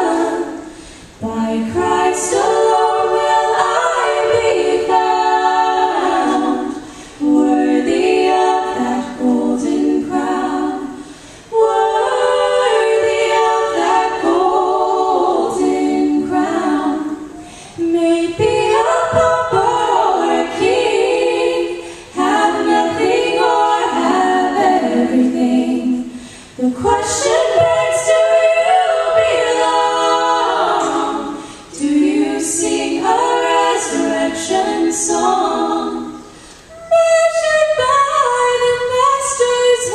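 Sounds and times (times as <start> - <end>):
women singing in harmony: 0.0 - 39.9.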